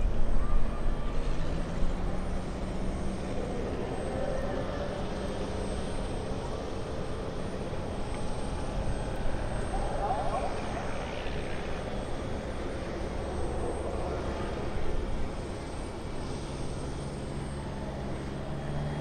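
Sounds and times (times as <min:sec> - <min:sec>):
light plane engine droning: 0:00.0 - 0:19.0
outdoor rumble: 0:00.0 - 0:19.0.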